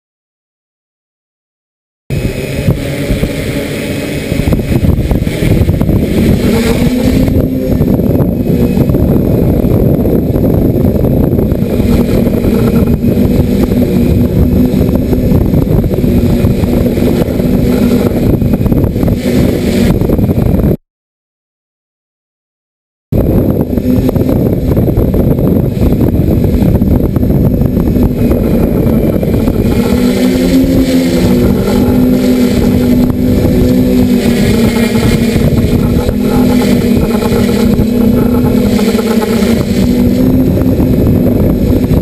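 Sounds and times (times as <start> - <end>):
drone motors and propellers humming: 2.1 - 20.8, 23.2 - 42.0
wind buffeting microphone: 2.1 - 20.8, 23.1 - 42.0.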